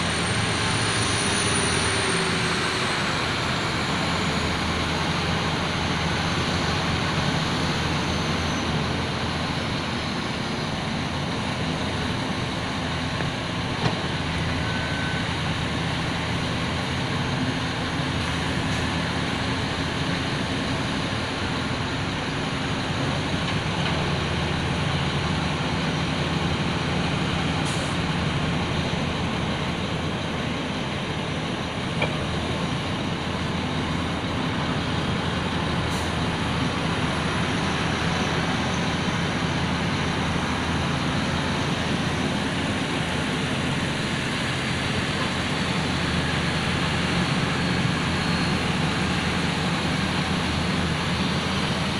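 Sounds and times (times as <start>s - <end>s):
diesel machinery droning: 0.0s - 51.9s.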